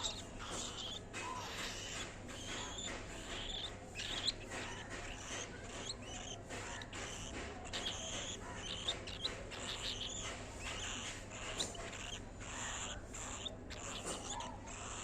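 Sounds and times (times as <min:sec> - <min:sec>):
cockatiel chirping: 0:00.0 - 0:15.0.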